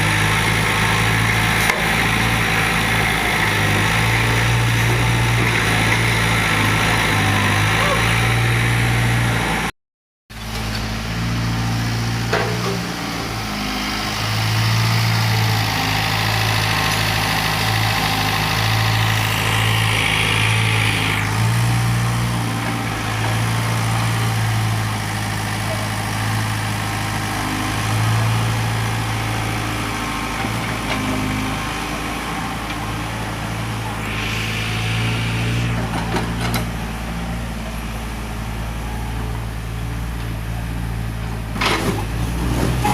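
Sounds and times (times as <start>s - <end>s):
excavator diesel engine running: 0.0s - 9.7s, 10.4s - 42.9s.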